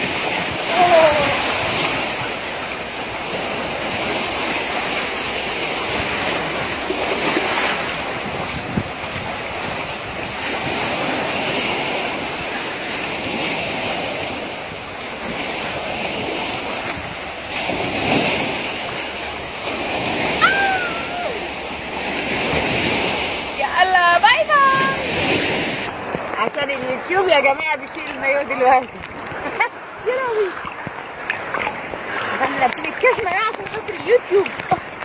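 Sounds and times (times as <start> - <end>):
sea waves washing on shore: 0.0 - 35.0
wind on microphone: 0.0 - 35.0.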